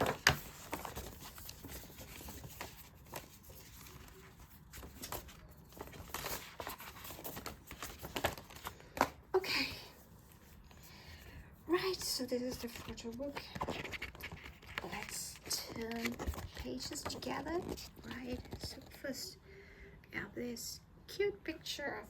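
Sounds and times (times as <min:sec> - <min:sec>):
paper rustling and crinkling: 0:00.0 - 0:09.2, 0:09.8 - 0:19.0.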